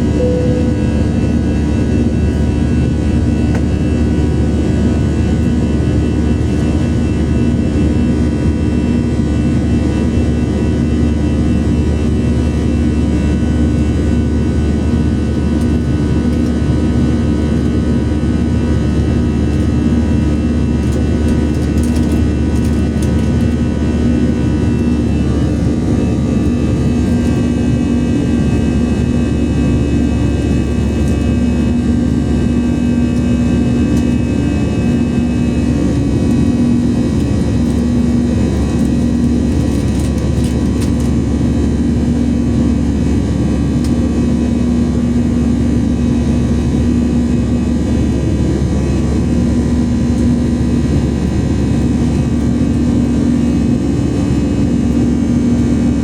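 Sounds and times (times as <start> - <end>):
airplane cabin roar: 0.0 - 56.0
steady low hum: 0.0 - 56.0.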